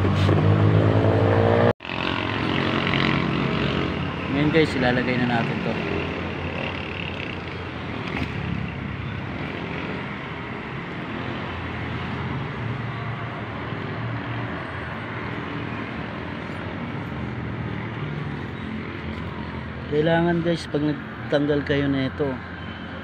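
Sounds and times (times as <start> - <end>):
motor vehicle rumble: 0.0 - 21.5.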